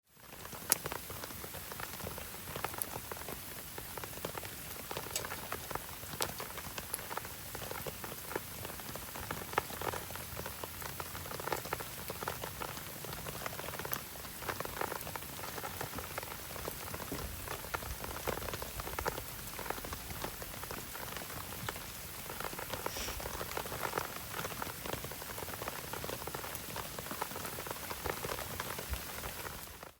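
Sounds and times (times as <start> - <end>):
rain pattering: 0.0 - 29.9
campfire crackling and popping: 0.1 - 29.9.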